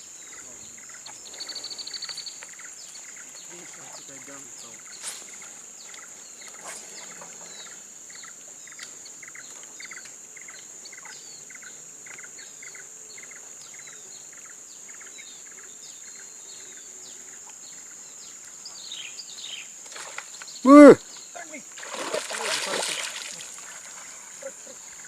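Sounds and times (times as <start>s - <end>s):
bird chirping: 0.0s - 21.6s
high-pitched insect hum: 0.0s - 25.0s.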